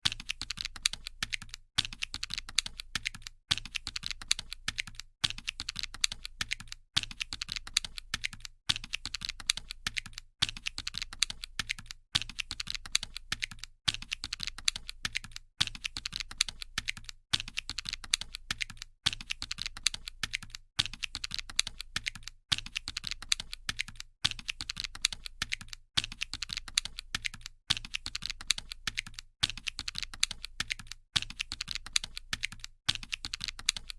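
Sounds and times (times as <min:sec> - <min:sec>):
calculator keys clicking: 0:00.0 - 0:33.9.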